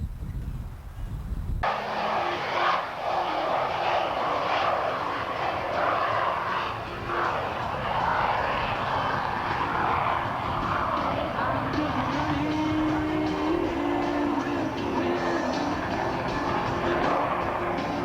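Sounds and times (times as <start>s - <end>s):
airplane flying by: 1.6s - 18.0s.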